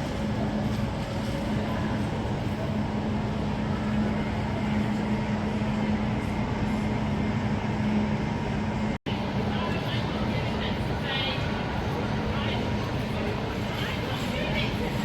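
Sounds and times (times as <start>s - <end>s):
train rumbling in station: 0.0s - 15.0s.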